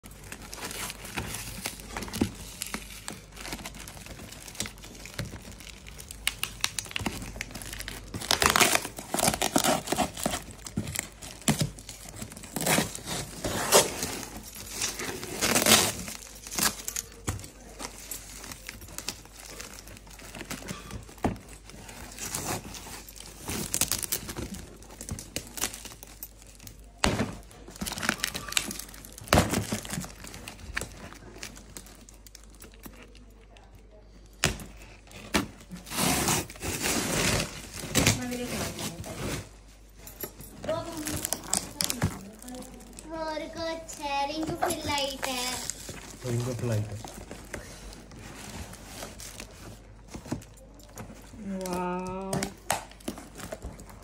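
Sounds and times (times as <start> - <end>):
packaging crinkling: 0.0 - 54.0
cardboard rustling: 0.1 - 33.3, 34.4 - 54.0
packing tape peeling and tearing: 0.2 - 33.6, 34.4 - 39.5, 44.3 - 54.0.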